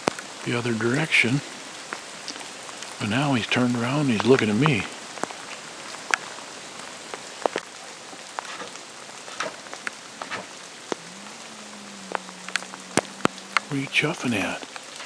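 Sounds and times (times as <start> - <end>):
faint steady hum: 0.0 - 15.0
rain drops ticking on hard surfaces: 0.0 - 15.0.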